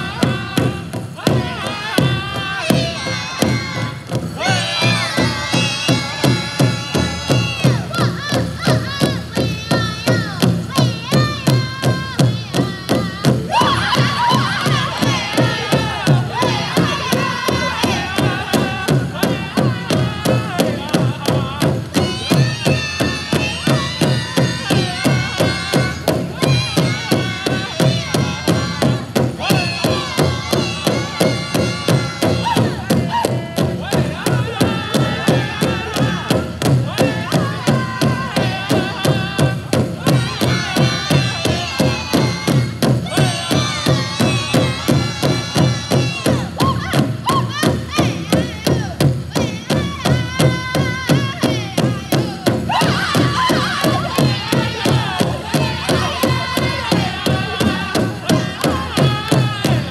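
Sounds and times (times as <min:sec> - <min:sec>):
big drum beating: 0:00.0 - 0:59.9
drum group singing: 0:00.0 - 0:59.9.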